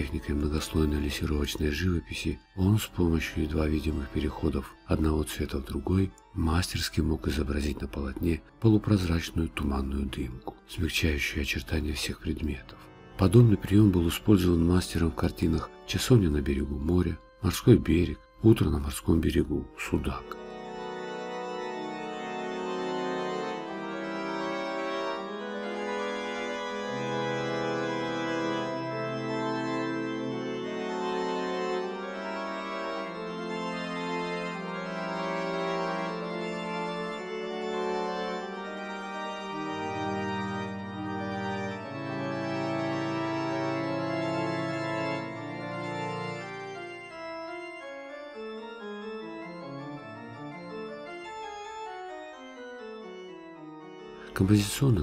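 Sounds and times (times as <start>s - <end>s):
sustained organ-like chords: 0.0s - 55.0s.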